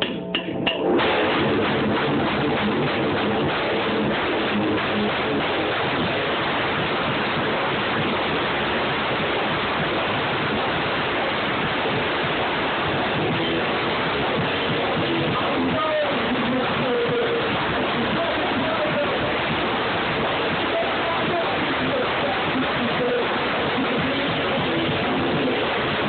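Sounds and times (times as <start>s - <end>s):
drum hits: 0.0s - 26.0s
rock band playing distorted: 0.0s - 26.0s.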